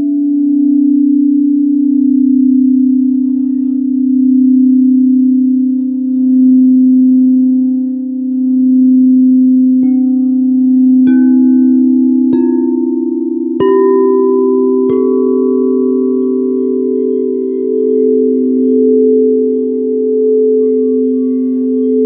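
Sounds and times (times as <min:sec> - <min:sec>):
singing bowl ringing hum: 0:00.0 - 0:22.0
singing bowls struck: 0:00.0 - 0:22.0.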